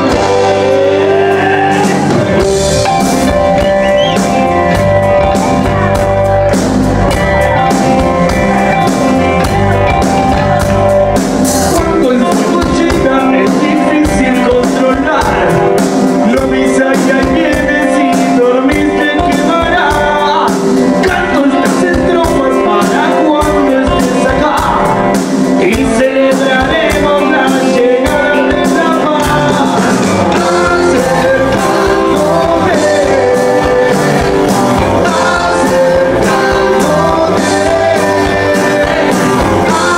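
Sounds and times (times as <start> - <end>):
person singing: 0.0 - 6.5, 7.1 - 39.9
bass guitar: 0.0 - 39.9
drums: 0.0 - 39.9
electric guitar: 0.0 - 39.9.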